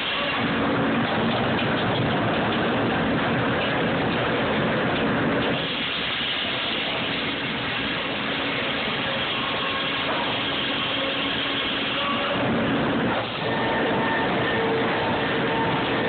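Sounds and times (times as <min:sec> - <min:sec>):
sawmill machinery din: 0:00.0 - 0:16.0.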